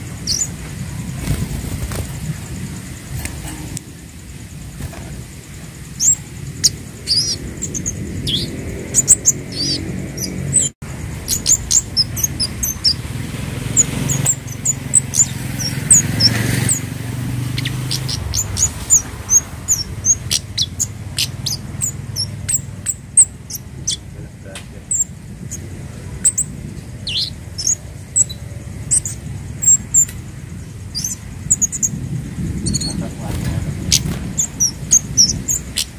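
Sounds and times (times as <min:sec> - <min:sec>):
bird high thin chirps: 0:00.0 - 0:02.1, 0:05.9 - 0:13.0, 0:13.6 - 0:35.9
low background rumble: 0:00.0 - 0:35.9.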